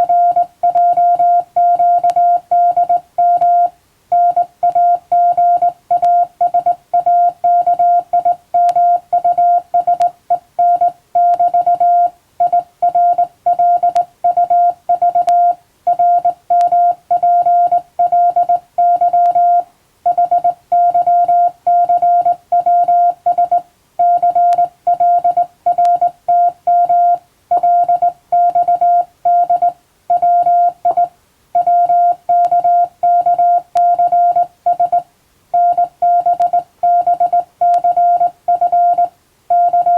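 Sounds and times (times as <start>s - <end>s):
morse code beeps: 0.0s - 35.0s, 35.6s - 39.9s.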